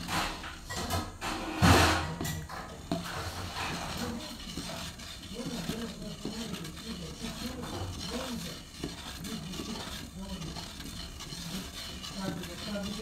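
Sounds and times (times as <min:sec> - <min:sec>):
foil trays tapping: 0:00.0 - 0:13.0.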